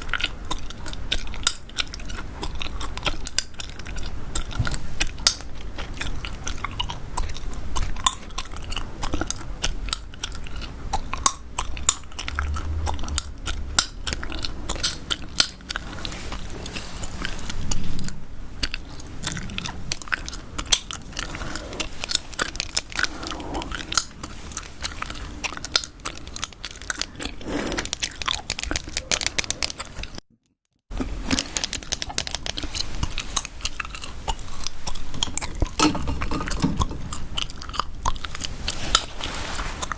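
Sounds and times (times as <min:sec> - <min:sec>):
gum chewing mouth clicks: 0:00.0 - 0:30.2, 0:30.9 - 0:39.9.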